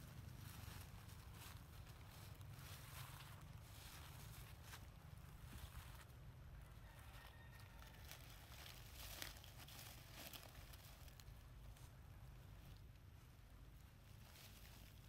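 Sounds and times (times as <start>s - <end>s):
dry leaves crackling: 0.0s - 15.0s
low steady rumble: 0.0s - 15.0s.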